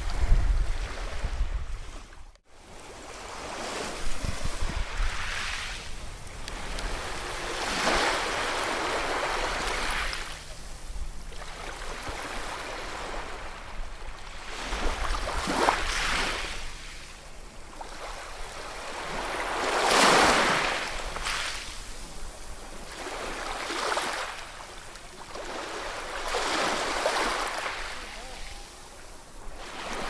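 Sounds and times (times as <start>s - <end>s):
ocean waves breaking: 0.0s - 30.0s.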